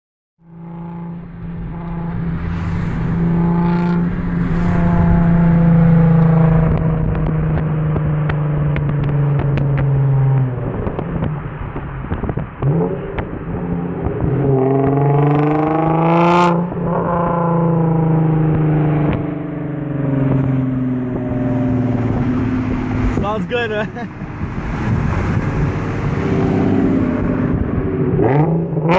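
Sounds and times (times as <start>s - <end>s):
loud car exhaust revving: 0.4s - 23.3s, 24.2s - 28.9s.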